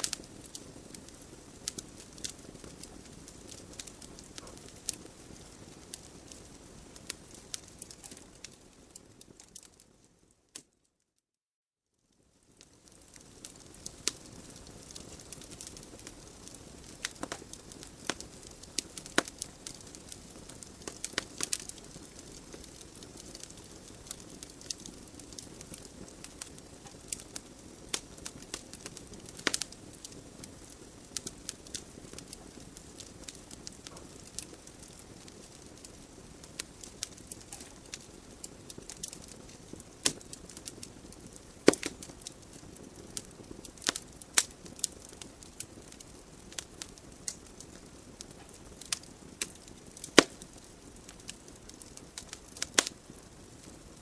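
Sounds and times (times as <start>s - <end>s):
hiss of flames: 0.0s - 9.5s, 12.4s - 54.0s
fire crackling and popping: 0.0s - 10.8s, 12.0s - 54.0s.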